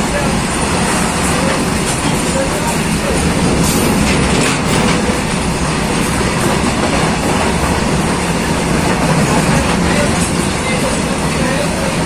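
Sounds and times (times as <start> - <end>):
freight train wheels rumbling: 0.0 - 12.0
wheels clacking over rail joints: 0.0 - 12.0.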